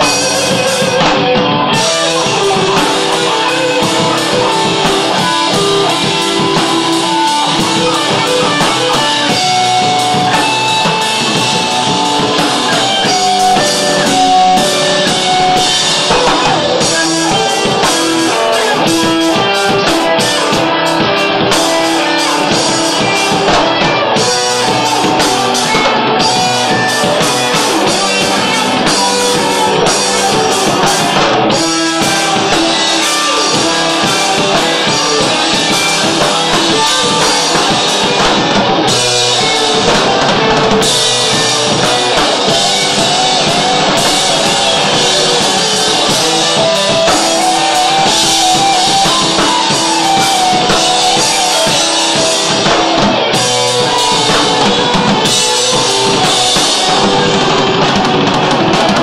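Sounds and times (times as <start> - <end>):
live rock band: 0.0 - 59.0.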